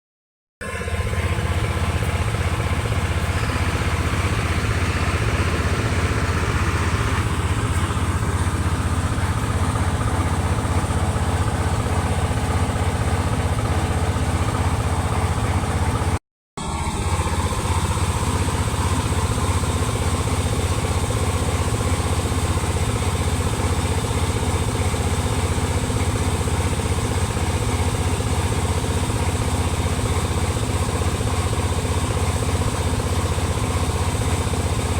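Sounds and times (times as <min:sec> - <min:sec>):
diesel truck engine idling: 0:00.6 - 0:34.9.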